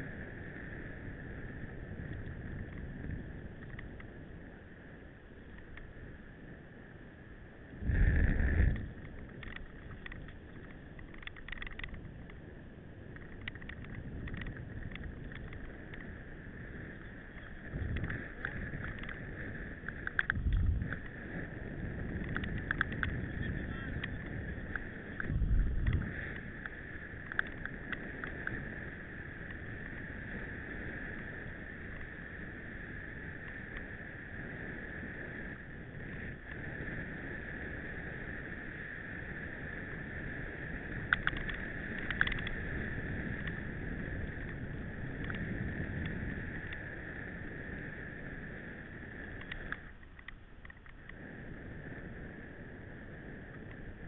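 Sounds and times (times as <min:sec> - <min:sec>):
bike tyres rolling: 0:00.0 - 0:54.0.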